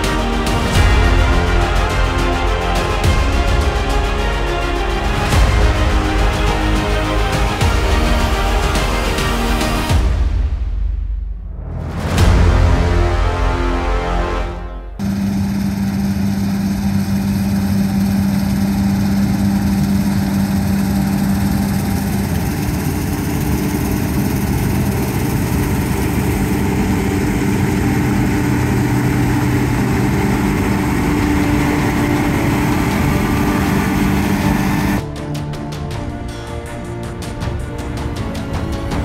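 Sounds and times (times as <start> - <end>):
combine harvester engine droning: 0.0 - 9.9, 12.5 - 35.0.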